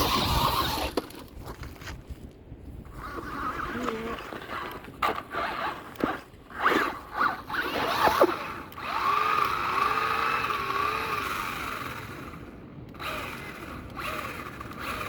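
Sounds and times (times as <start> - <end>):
small electric motor whirring: 0.0 - 1.4, 2.9 - 15.0.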